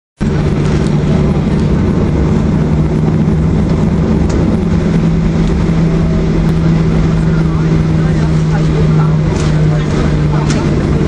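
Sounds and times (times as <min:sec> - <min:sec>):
engine and airflow rush: 0:00.2 - 0:11.0
low cabin hum: 0:00.2 - 0:11.0.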